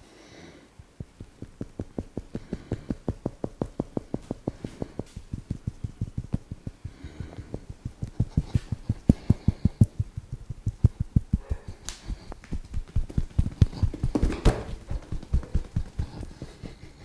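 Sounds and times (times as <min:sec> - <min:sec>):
hands slapping body: 0:01.0 - 0:17.0.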